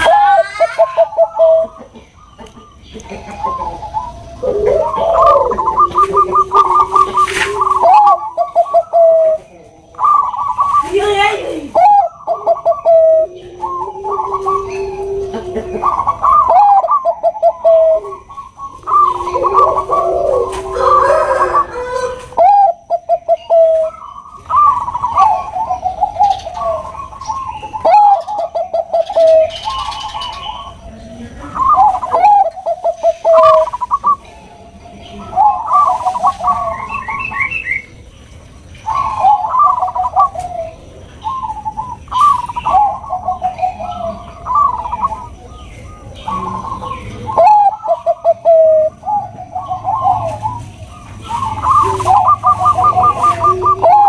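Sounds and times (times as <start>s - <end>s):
doves cooing: 0.0s - 54.0s.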